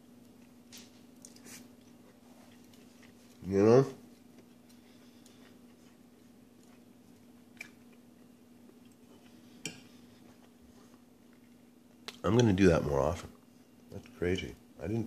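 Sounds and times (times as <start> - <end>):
faint chewing of noodles: 0.0 - 12.2
steady low hum: 0.0 - 15.0.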